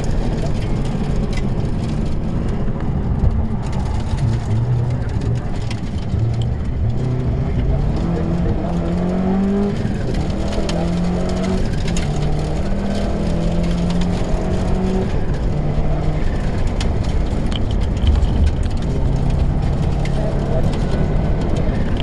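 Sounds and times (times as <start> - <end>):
rally car engine running hard: 0.0 - 22.0
road and tyre noise: 0.0 - 22.0.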